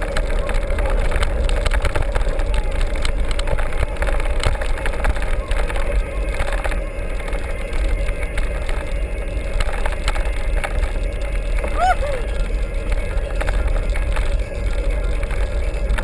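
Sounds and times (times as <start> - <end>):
bike rattling and knocking: 0.0 - 16.0
wind rumble on microphone: 0.0 - 16.0.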